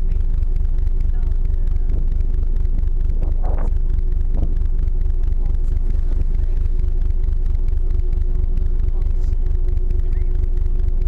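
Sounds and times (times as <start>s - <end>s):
faint voices: 0.0s - 11.0s
ship engines rumbling: 0.0s - 11.0s
steady hum: 0.0s - 11.0s.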